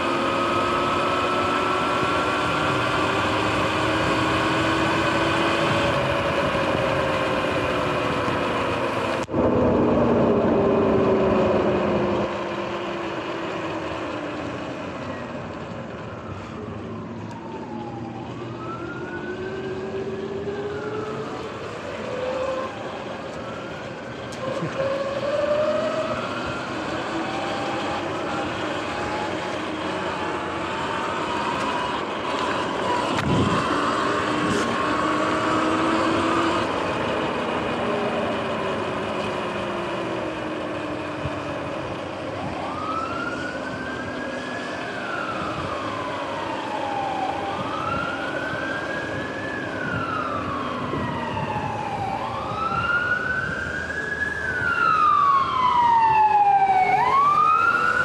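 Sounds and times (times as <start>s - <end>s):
emergency siren wailing: 0.0s - 58.0s.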